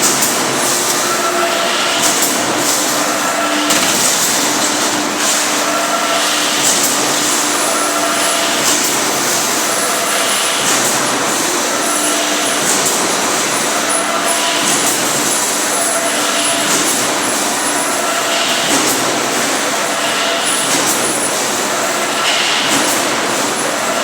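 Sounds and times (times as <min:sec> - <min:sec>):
welding line mechanical noise: 0:00.0 - 0:24.0.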